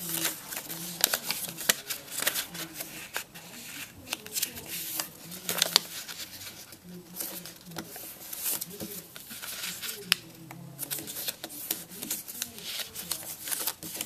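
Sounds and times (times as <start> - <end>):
paper crackling as folded: 0.0 - 14.0
paper rustling: 0.0 - 14.0.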